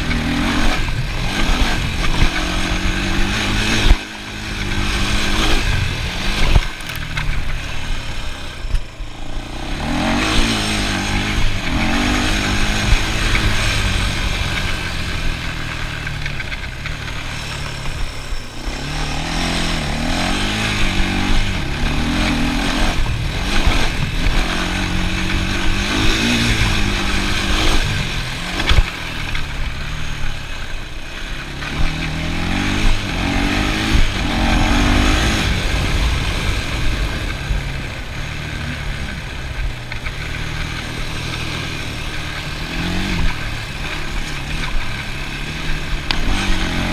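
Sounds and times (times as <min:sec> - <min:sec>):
atv engine revving: 0:00.0 - 0:46.9.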